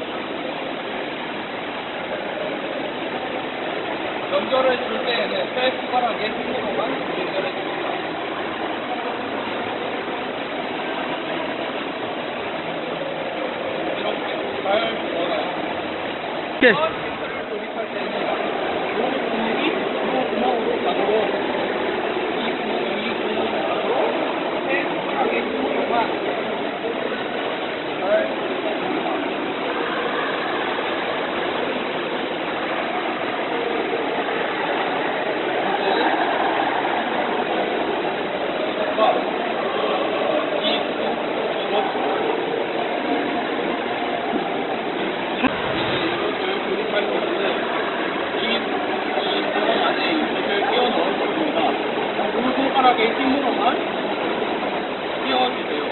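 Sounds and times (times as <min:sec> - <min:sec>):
indoor pool hall hum and hiss: 0:00.0 - 0:55.9
steady machine noise: 0:00.0 - 0:55.9.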